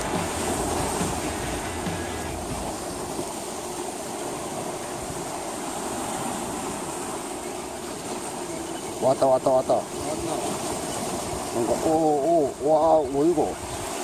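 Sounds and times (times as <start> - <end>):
seawater washing against shore: 0.0 - 14.0.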